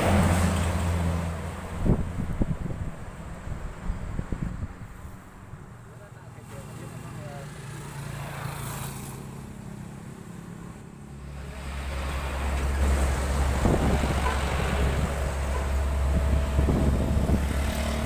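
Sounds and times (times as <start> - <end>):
diesel bus engine rumble: 0.0 - 7.7, 9.4 - 18.0
road and wind noise: 0.0 - 18.0.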